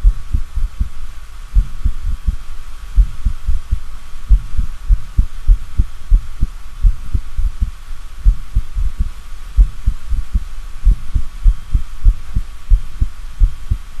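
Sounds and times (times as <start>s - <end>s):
heartbeat thuds: 0.0s - 1.0s, 1.6s - 2.4s, 3.0s - 13.9s
faint steady hum: 0.0s - 14.0s.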